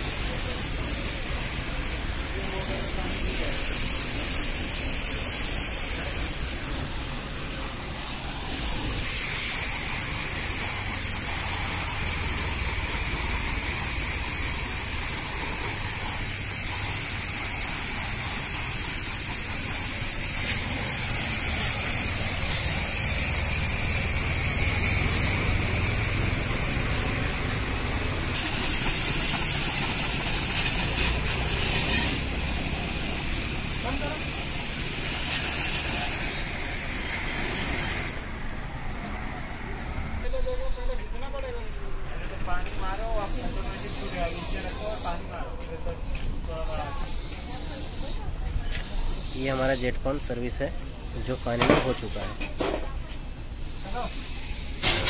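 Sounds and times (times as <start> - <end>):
water spray hissing on metal coil: 0.0 - 41.0, 42.5 - 45.4, 46.4 - 55.0.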